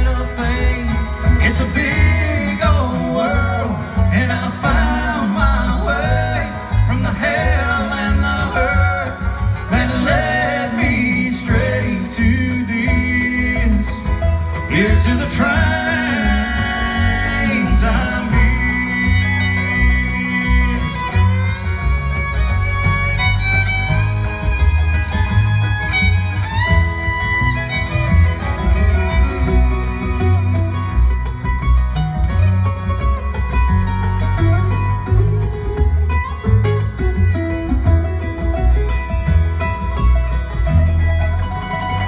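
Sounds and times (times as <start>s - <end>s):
acoustic guitar: 0.0s - 42.0s
banjo: 0.0s - 42.0s
fiddle bowing sliding notes: 0.0s - 42.0s
mandolin: 0.0s - 42.0s
upright bass plucking: 0.0s - 42.0s.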